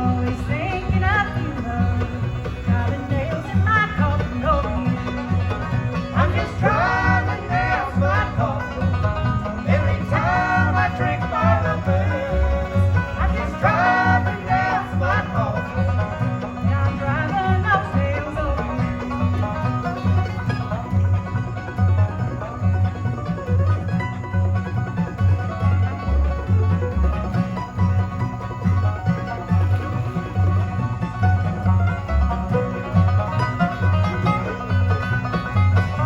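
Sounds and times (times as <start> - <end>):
bluegrass band playing: 0.0 - 36.0.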